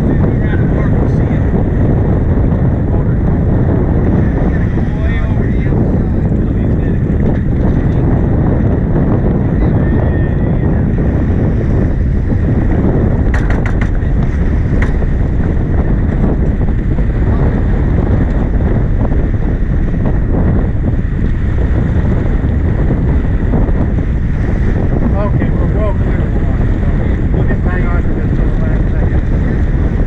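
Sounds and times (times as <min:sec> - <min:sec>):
water rushing along hull: 0:00.0 - 0:30.0
wind buffeting microphone: 0:00.0 - 0:30.0.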